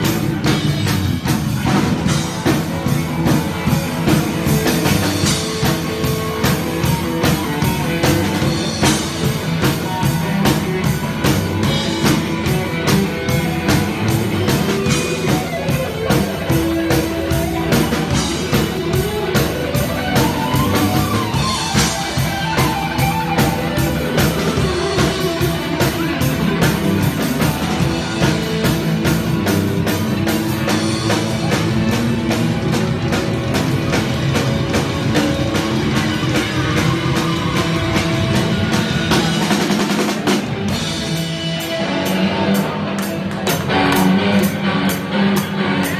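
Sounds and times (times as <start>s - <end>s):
distorted electric guitar: 0.0s - 45.9s
driving drum-kit beat: 0.0s - 45.9s.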